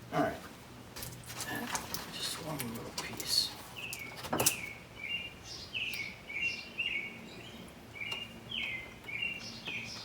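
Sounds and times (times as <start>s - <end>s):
small birds chirping: 1.4s - 10.0s.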